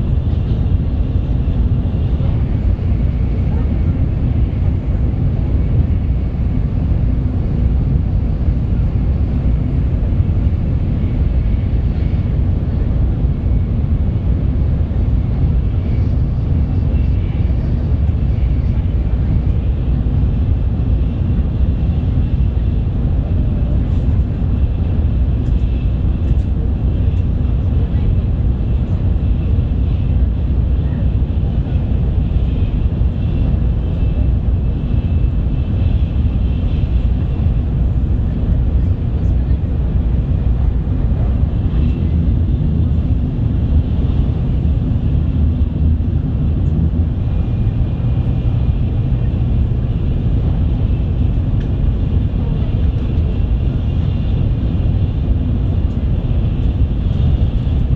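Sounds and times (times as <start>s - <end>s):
high-speed train rumble: 0.0s - 57.9s.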